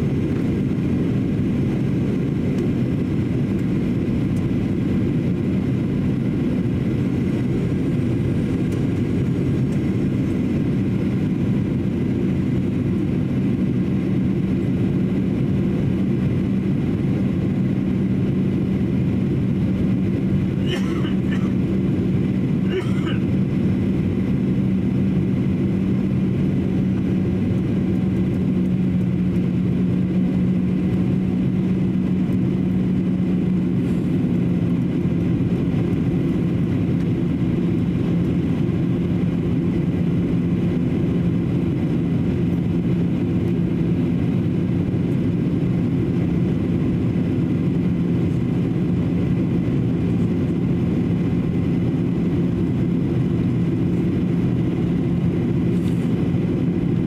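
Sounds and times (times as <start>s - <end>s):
air rushing along fuselage: 0.0s - 57.0s
jet engines droning: 0.0s - 57.0s.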